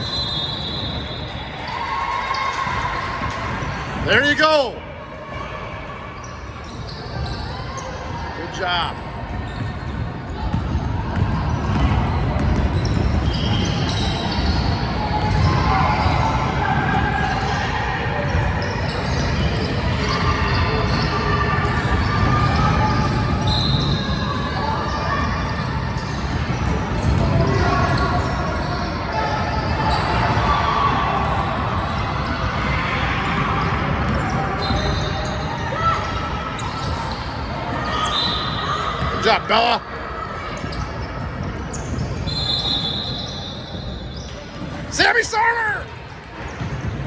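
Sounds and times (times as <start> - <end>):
voices echoing in a hall: 0.0 - 47.0.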